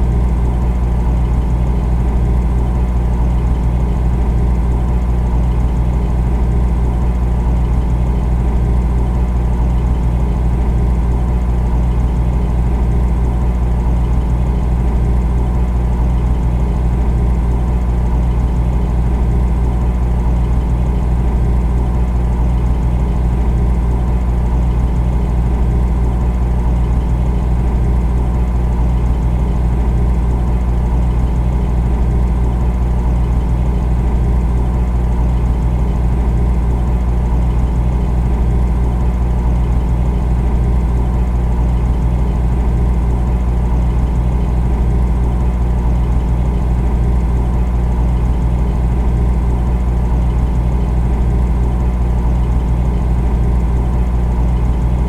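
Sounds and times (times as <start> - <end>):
refrigerator humming: 0.0 - 55.0.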